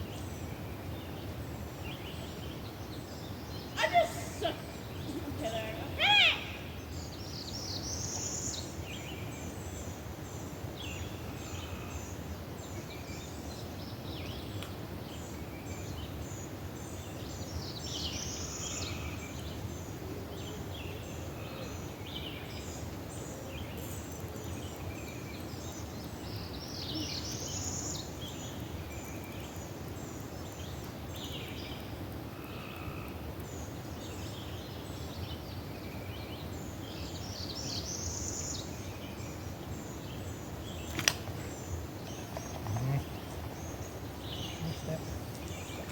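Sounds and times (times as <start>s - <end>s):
bird song phrase: 0.1s - 45.9s
birds chirping: 1.9s - 45.9s.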